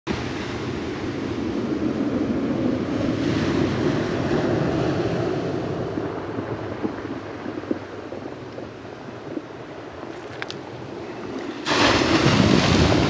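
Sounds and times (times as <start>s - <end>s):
surf rushing on shore: 0.1s - 13.0s
wind on microphone: 0.1s - 13.0s.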